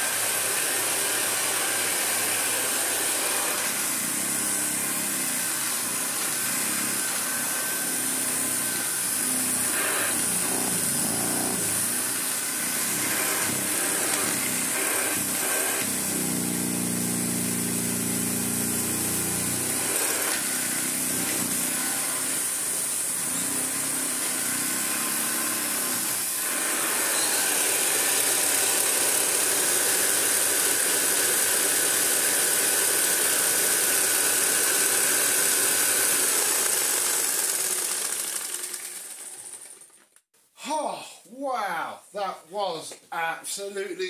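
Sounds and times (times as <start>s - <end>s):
upright vacuum cleaner running: 0.0s - 40.1s.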